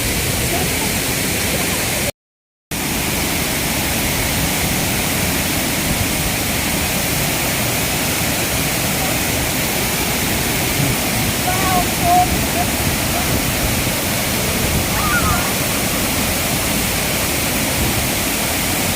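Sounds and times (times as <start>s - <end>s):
waterfall rushing: 0.0s - 2.1s, 2.8s - 18.9s.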